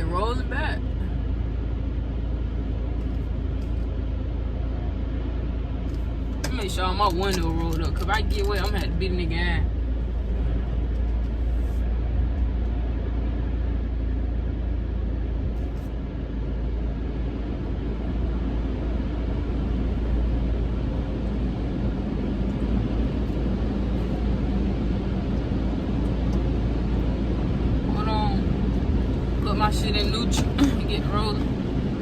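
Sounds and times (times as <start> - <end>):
car wash rumble and hiss: 0.0 - 32.0.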